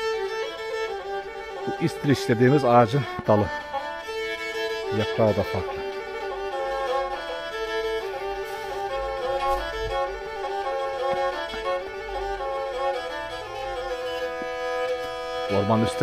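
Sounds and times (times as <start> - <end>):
bowed fiddle melody: 0.0 - 16.0.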